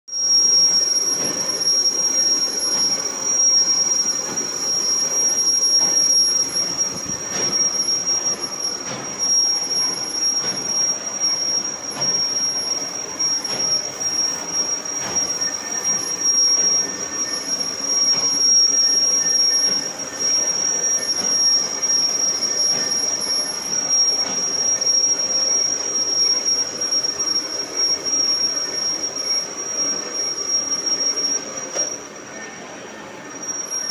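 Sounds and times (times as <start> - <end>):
high-pitched squeal: 0.1 - 33.9
metal lathe running: 0.1 - 33.9.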